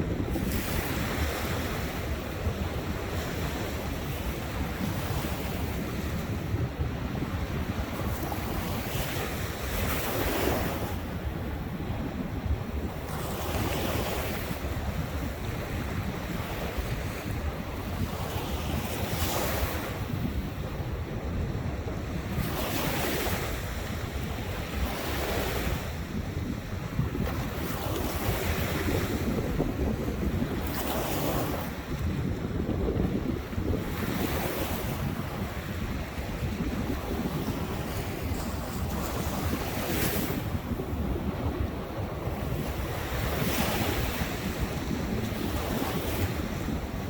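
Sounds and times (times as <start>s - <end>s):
ocean waves breaking on shore: 0.0s - 47.0s
wind rumble on microphone: 0.0s - 47.0s.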